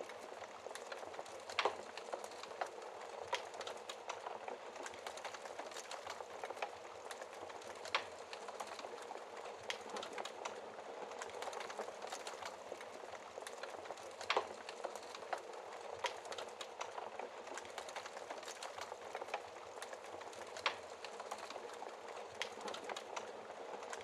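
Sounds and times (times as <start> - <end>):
wood fire crackling: 0.0 - 24.0
loud fire snaps: 0.1 - 24.0.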